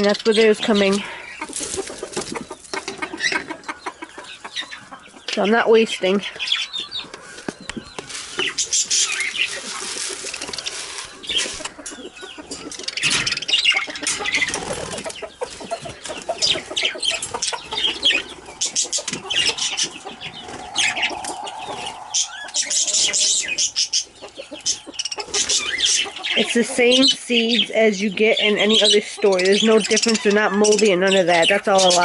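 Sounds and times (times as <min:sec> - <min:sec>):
budgerigars chattering and chirping: 0:00.0 - 0:32.0.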